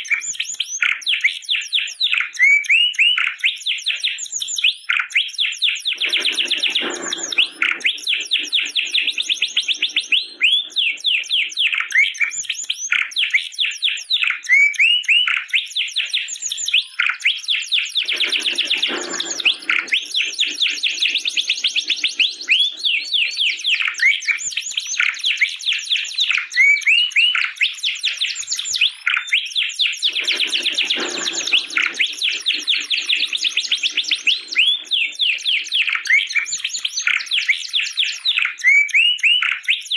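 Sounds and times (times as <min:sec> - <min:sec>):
canary singing trills: 0:04.9 - 0:39.9.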